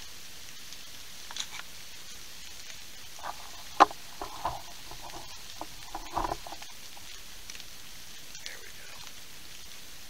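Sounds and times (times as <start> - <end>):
rain pattering on leaves: 0.0 - 10.0.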